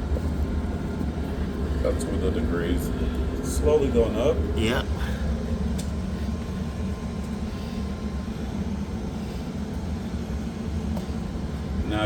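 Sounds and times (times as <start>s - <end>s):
smoker humming: 0.0s - 12.0s.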